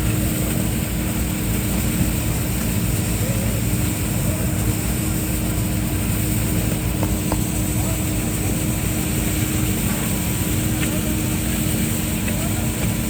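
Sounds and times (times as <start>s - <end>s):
heavy machinery engine droning: 0.0s - 13.0s.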